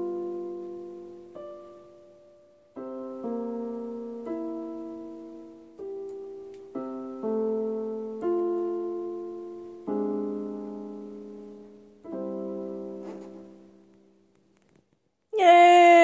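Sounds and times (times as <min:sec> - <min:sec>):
electronic keyboard piano notes: 0:00.0 - 0:14.2.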